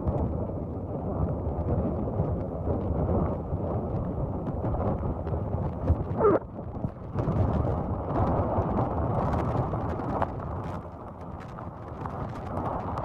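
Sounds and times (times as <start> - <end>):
hurricane wind and rain: 0.0 - 13.0.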